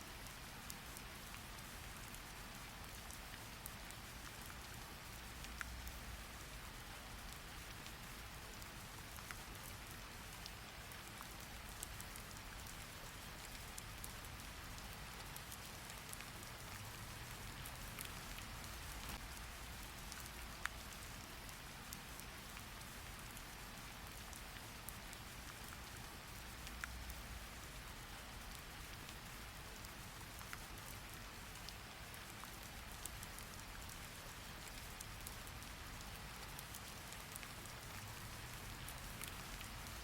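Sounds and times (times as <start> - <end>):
steady rain: 0.0 - 40.0
ticks of raindrops: 0.0 - 40.0.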